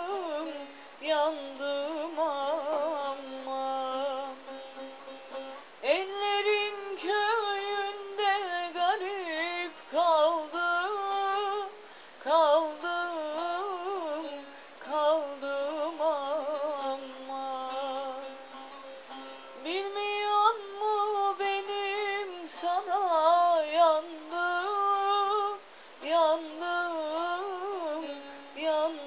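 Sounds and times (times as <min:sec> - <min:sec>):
person singing melismatic folk song: 0:00.0 - 0:29.0.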